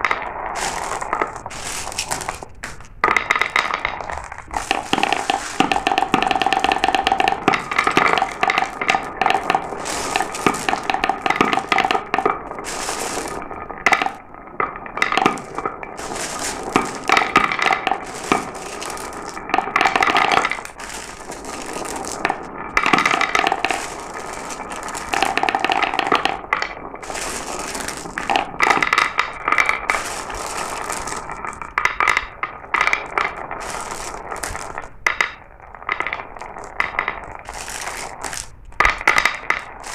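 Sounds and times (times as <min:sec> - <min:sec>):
marbles clattering down a run: 0:00.0 - 0:39.9.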